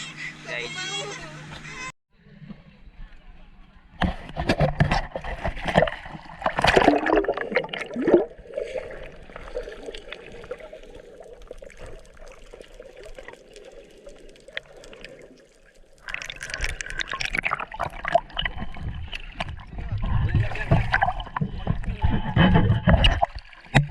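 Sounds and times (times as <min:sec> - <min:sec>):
water splashing and gurgling: 0:04.0 - 0:23.9.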